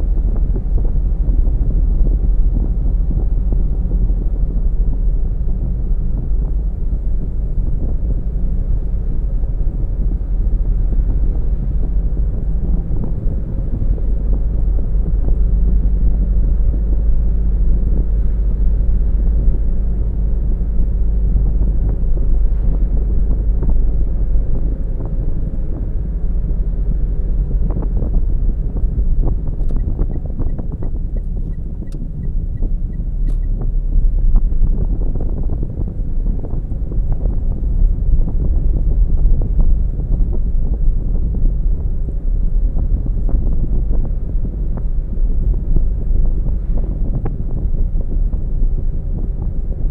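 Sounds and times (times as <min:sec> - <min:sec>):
car tyres and engine rumble: 0:00.0 - 0:49.9
wind noise: 0:00.0 - 0:49.9.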